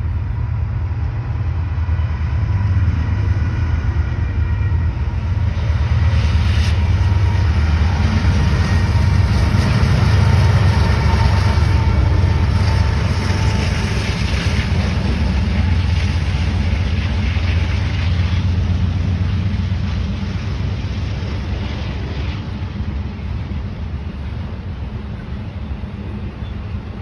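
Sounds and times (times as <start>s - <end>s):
freight train rumbling on rails: 0.0s - 27.0s.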